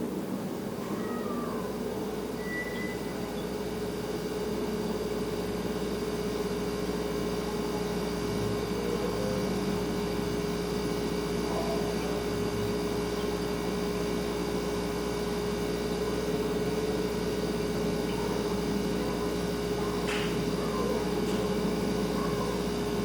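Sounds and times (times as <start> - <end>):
refrigerator hum: 0.0 - 23.0.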